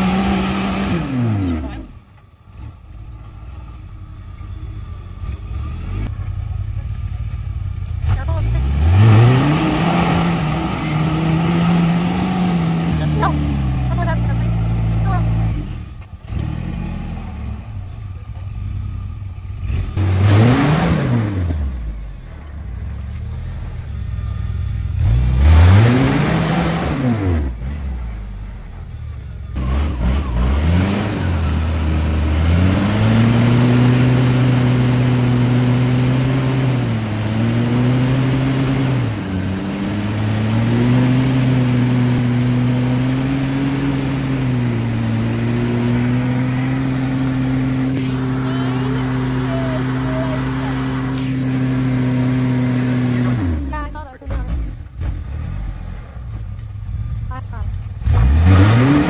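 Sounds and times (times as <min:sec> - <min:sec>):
engine revving hard: 0:00.0 - 0:02.7, 0:08.0 - 0:18.9, 0:19.5 - 0:22.3, 0:23.2 - 0:28.8, 0:29.5 - 0:56.0, 0:57.3 - 0:59.0.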